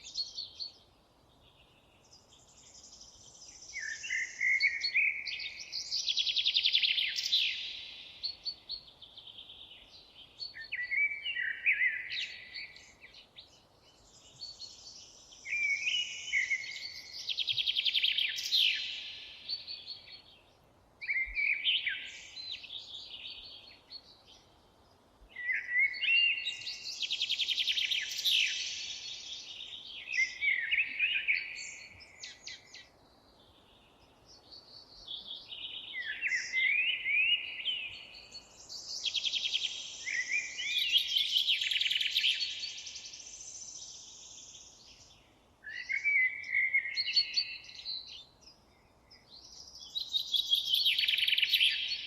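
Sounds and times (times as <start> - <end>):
faint background hiss: 0.0 - 52.0
songbirds warbling: 0.0 - 52.0.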